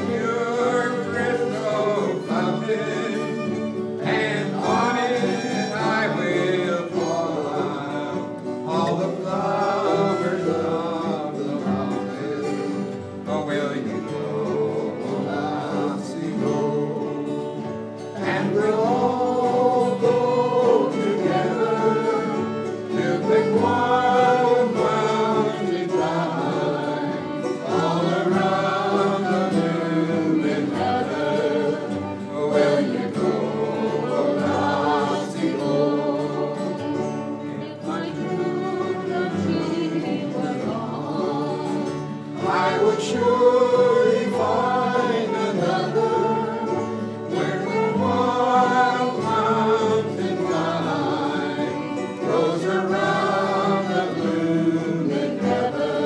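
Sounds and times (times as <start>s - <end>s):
fiddle melody: 0.0s - 56.0s
strummed acoustic guitars: 0.0s - 56.0s.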